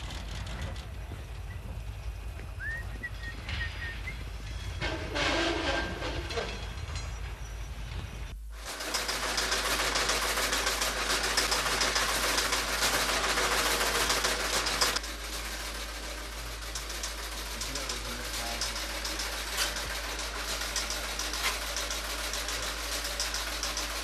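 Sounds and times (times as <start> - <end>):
freight wagon rolling: 0.0 - 24.0.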